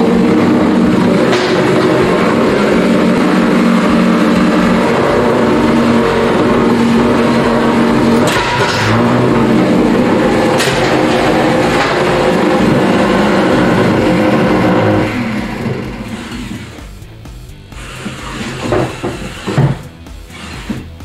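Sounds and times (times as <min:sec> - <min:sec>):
robot motors whining: 0:00.0 - 0:21.0
sharp knocks: 0:00.1 - 0:21.0.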